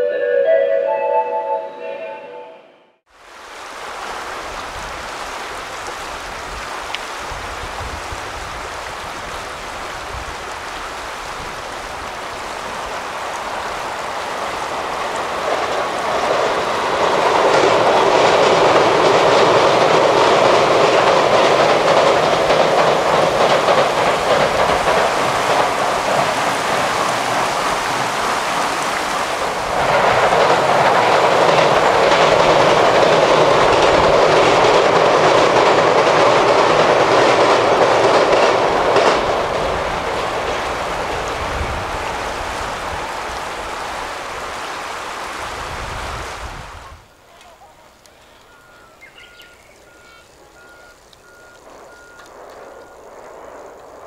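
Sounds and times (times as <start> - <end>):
second train passing: 0.0 - 54.0
train clattering over steel bridge: 7.3 - 46.1, 48.4 - 54.0.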